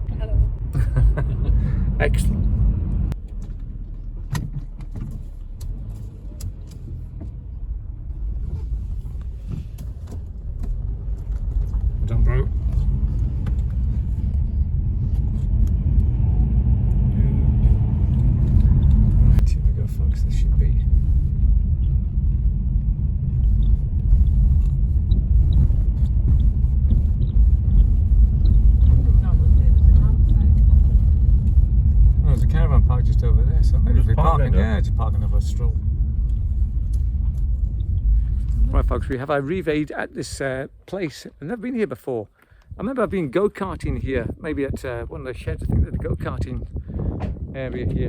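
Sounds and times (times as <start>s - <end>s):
engine and tyre rumble: 0.0s - 48.0s.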